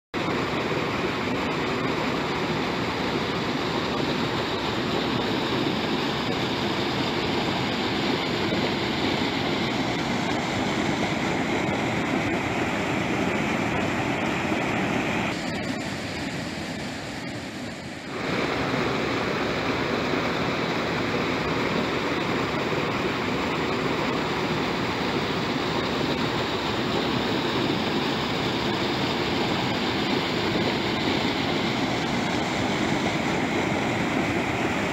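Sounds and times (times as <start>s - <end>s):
flowing river water: 0.2s - 34.9s.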